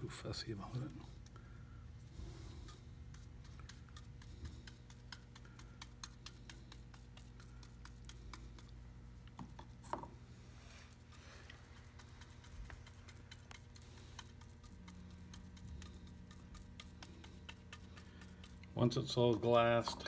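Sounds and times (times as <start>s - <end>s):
steady low hum: 0.0s - 20.0s
brush dabbing resin clicks: 2.3s - 10.1s, 10.9s - 20.0s.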